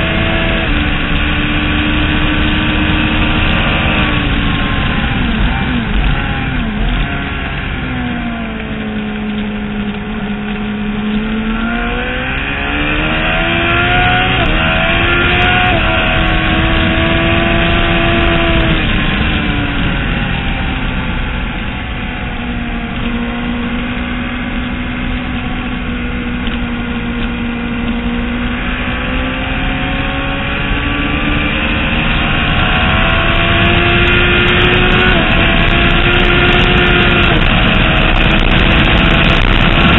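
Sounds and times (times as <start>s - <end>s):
motorcycle engine at speed: 0.0s - 39.9s
steady rushing noise: 0.0s - 39.9s.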